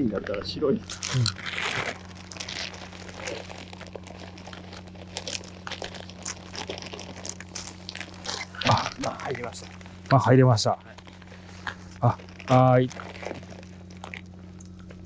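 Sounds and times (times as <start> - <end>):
plastic bag crinkling: 0.0 - 15.0
small crackles: 0.0 - 15.0.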